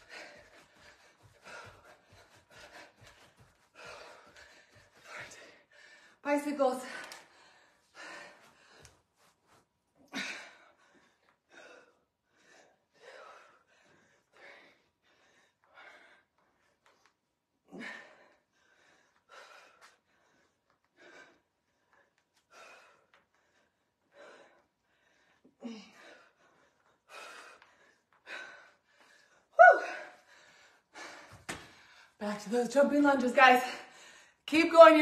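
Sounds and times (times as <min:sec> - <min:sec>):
woman breathing hard: 0:00.0 - 0:06.2, 0:06.8 - 0:17.0, 0:17.6 - 0:32.2.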